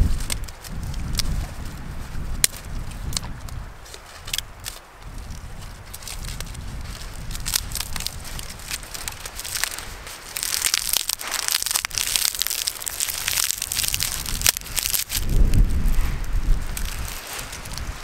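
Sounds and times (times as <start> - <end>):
dry grass crackling and crunching: 0.0 - 18.0.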